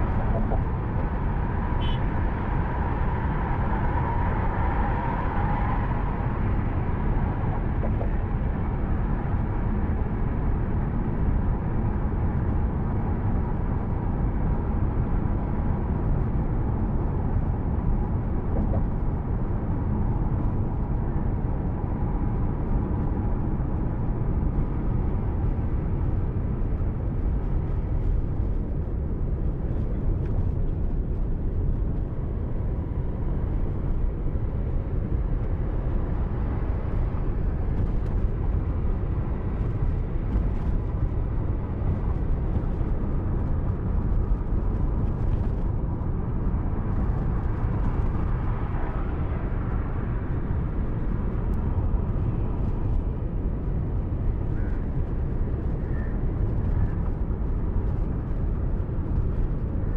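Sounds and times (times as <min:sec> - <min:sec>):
car engine rumble: 0:00.0 - 0:59.9
tyres on the road: 0:00.0 - 0:59.9.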